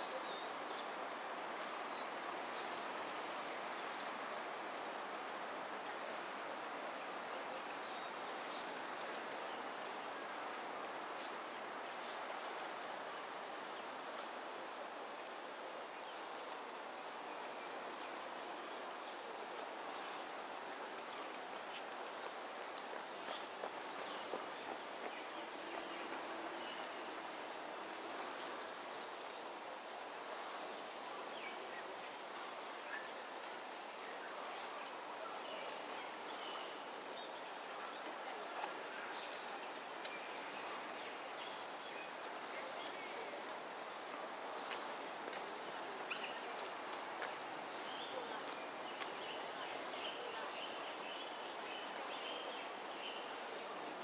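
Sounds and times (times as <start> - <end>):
background hiss: 0.0 - 54.0
insect chorus trilling: 0.0 - 54.0.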